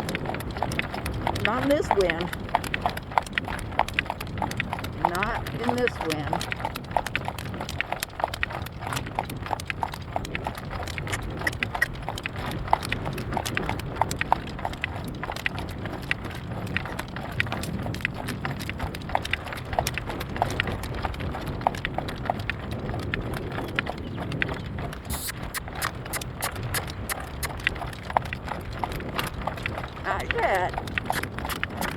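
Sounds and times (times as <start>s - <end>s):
horse hooves clip-clopping: 0.0s - 31.9s
wind on microphone: 0.0s - 31.9s.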